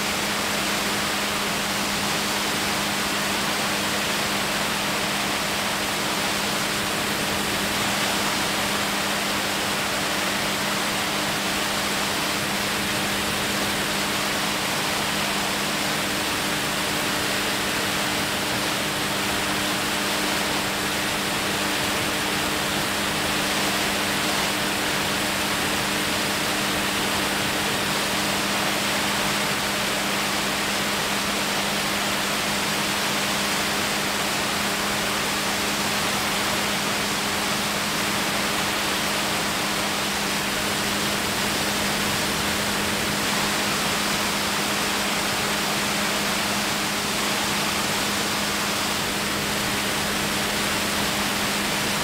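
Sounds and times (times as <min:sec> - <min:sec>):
aircraft engine drone: 0:00.0 - 0:52.0.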